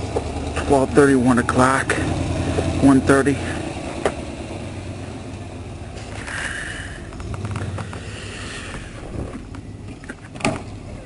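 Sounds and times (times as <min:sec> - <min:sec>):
vehicle engine low rumble: 0:00.0 - 0:11.0
outdoor noise hiss: 0:01.7 - 0:11.0.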